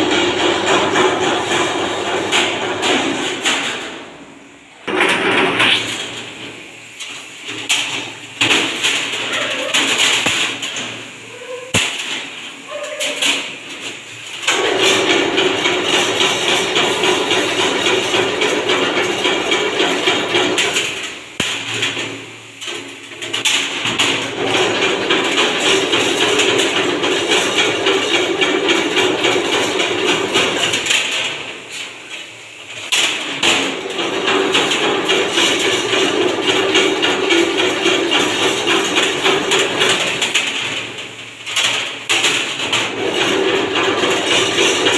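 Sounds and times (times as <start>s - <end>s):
wire mesh machine running: 0.0s - 44.9s.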